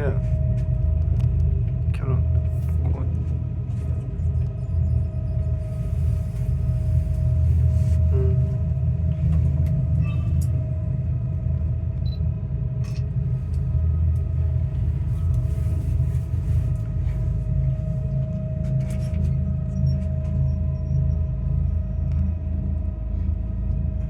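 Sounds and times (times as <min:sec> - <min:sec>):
faint steady whine: 0:00.0 - 0:24.0
railway car rumbling on track: 0:00.0 - 0:24.0.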